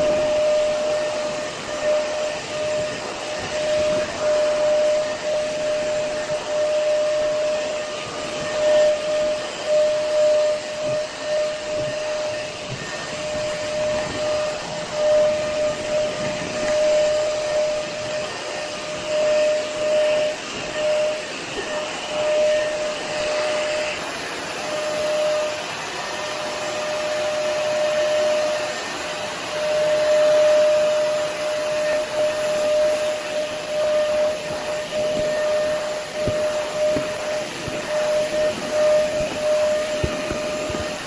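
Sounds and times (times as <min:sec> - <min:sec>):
floor machine motor running: 0:00.0 - 0:41.0
intermittent motor whine: 0:00.0 - 0:41.0.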